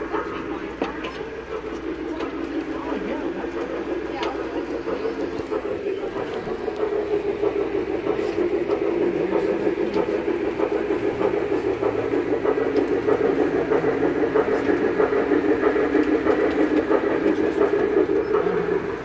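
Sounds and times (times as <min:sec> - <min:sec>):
train fluttering drone: 0:00.0 - 0:19.0.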